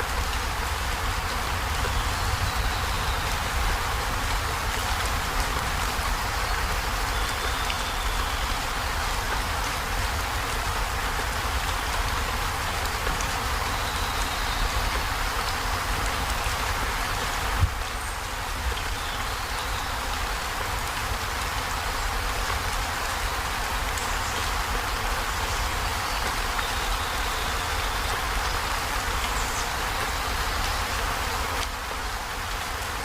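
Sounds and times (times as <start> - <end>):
heavy rain on metal roof: 0.0 - 33.0.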